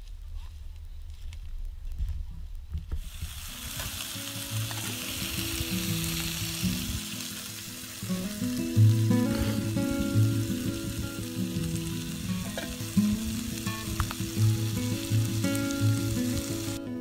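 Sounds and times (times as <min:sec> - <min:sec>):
bacon sizzling in a frying pan: 0:03.0 - 0:16.8
music of held low notes: 0:03.4 - 0:17.0.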